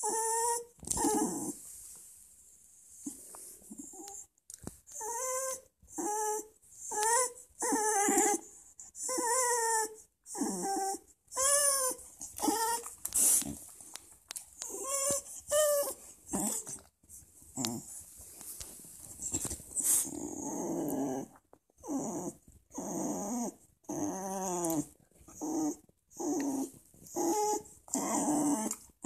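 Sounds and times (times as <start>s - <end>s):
dog whining moans: 0.0s - 1.6s, 3.0s - 4.3s, 4.9s - 13.6s, 14.6s - 16.9s, 17.6s - 18.0s, 19.2s - 29.0s.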